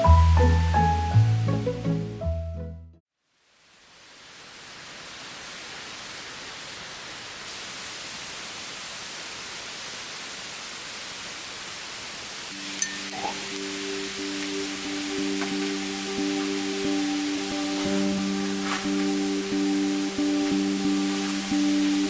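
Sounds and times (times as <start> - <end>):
steady hiss: 3.3 - 22.0.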